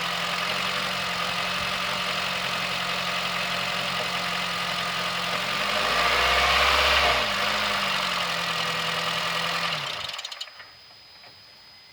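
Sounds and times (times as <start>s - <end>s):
car engine running with rattle: 0.0s - 11.4s.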